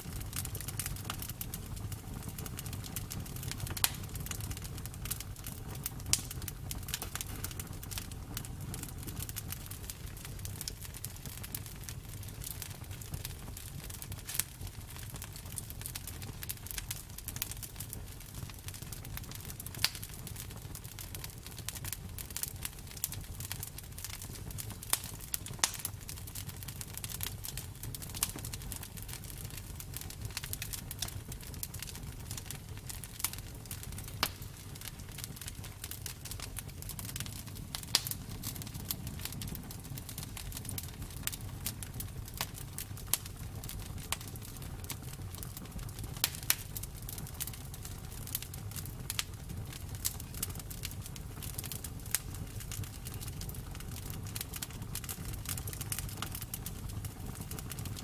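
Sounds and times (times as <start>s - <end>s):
campfire burning: 0.0s - 58.0s
wood crackling and popping: 0.0s - 58.0s.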